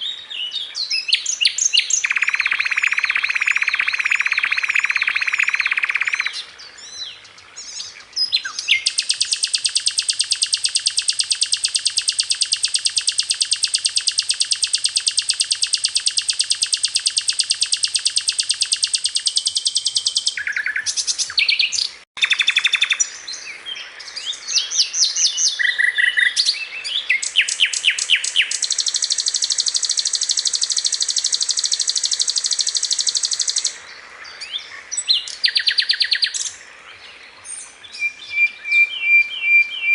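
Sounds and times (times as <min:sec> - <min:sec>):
bird singing fast trills: 0:00.0 - 0:36.6, 0:37.5 - 0:39.9
bird chirping phrases: 0:00.0 - 0:39.9.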